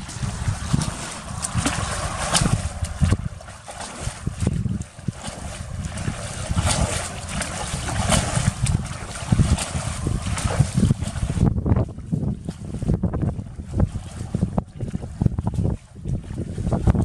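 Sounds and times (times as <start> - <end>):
bucket scooping water: 0.0 - 17.0
muddy water splashing: 0.0 - 17.0
wind rumbling on microphone: 0.0 - 17.0.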